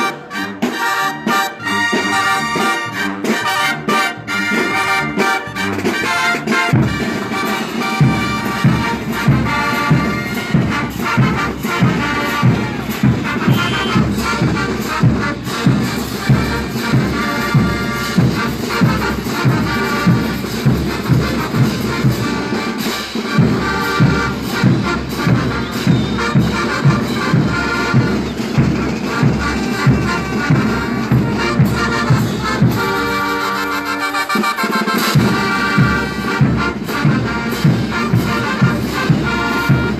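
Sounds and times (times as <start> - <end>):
bass drum and tuba beat: 0.0 - 39.9
brass band horns playing: 0.0 - 39.9.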